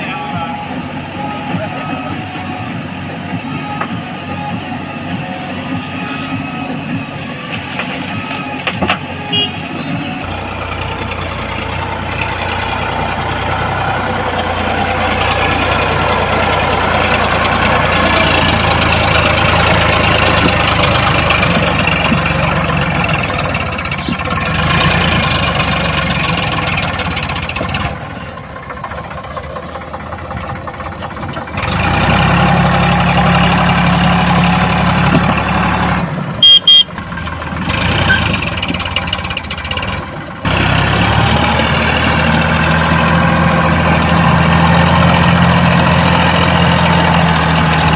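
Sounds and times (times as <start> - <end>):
diesel engines under load: 0.0 - 47.9.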